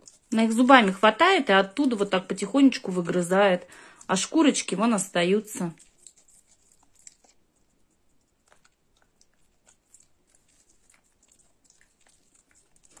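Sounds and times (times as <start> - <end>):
monkey gnawing corn cob: 0.0 - 13.0.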